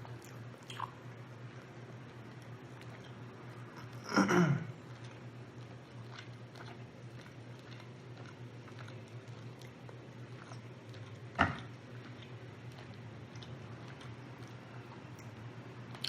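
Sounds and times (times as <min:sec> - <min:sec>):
person chewing food: 0:00.0 - 0:04.0, 0:04.7 - 0:16.0
steady low hum: 0:00.0 - 0:16.0.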